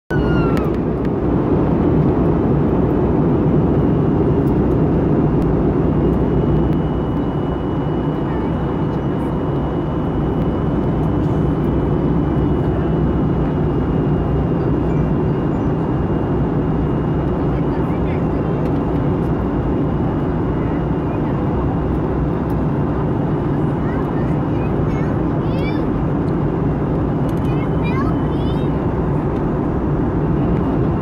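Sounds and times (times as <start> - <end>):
jet engine and airflow rushing: 0.1 - 31.0.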